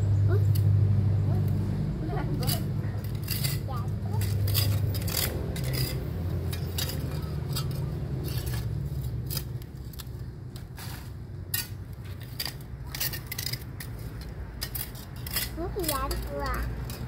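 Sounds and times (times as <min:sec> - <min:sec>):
tongs clicking and scraping on concrete: 0:00.3 - 0:00.8, 0:01.4 - 0:17.0.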